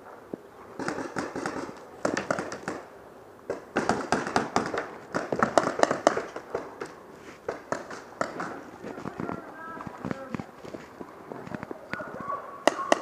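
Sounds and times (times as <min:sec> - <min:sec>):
paintball markers firing: 0:00.8 - 0:02.8, 0:03.5 - 0:10.5, 0:11.5 - 0:13.0.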